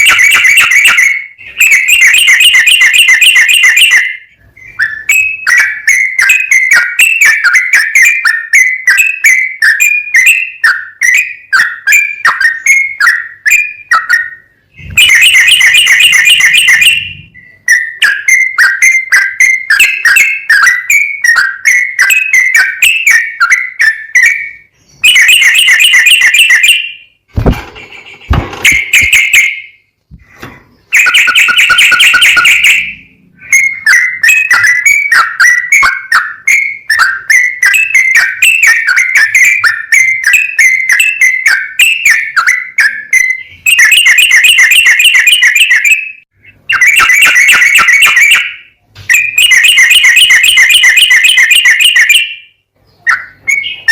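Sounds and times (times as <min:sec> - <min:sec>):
bird singing chirping phrases: 0:00.0 - 0:27.1, 0:30.7 - 0:53.9.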